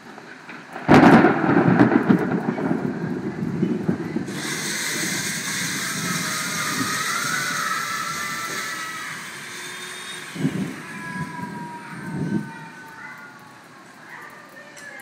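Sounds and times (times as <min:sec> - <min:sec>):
thunder crack and rumble: 0:00.0 - 0:09.4, 0:10.2 - 0:12.8
steady high hiss: 0:00.0 - 0:15.0.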